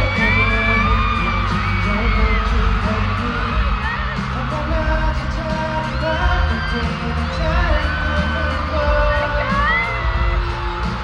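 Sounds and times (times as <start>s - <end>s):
pop song performed live: 0.0s - 11.0s.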